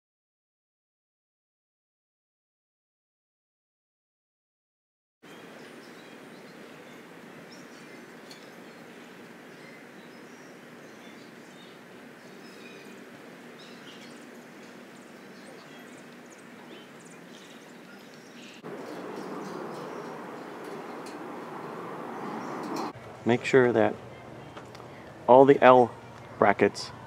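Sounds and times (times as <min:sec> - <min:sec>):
small birds chirping: 0:05.2 - 0:27.0
steady background hiss: 0:05.3 - 0:27.0.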